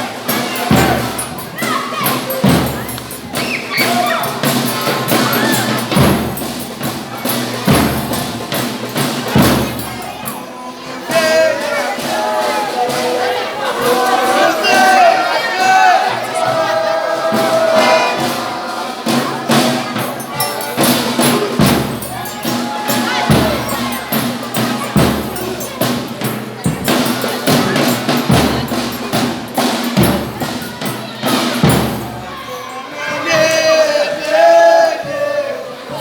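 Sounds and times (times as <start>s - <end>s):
deep drum beats: 0.0s - 10.2s, 11.1s - 32.5s
rattling clicking percussion: 0.0s - 10.5s, 12.0s - 32.5s
voices singing: 0.0s - 36.0s.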